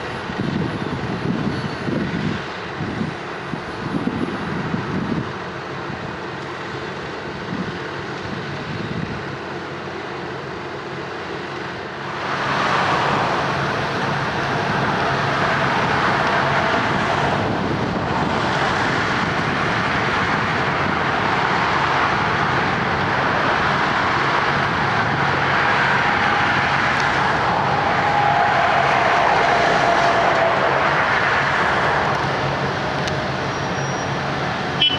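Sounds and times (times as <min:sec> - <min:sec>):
heavy diesel paving machinery: 0:00.0 - 0:34.9.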